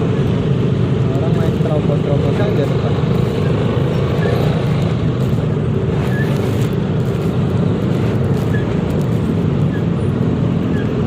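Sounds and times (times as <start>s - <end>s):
scooter engine and road drone: 0.0s - 11.0s.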